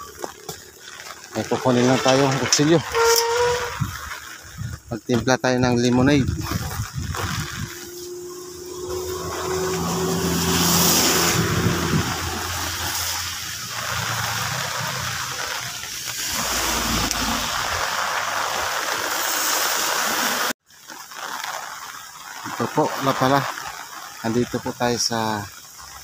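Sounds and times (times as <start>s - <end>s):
running water splashing: 0.0s - 26.0s.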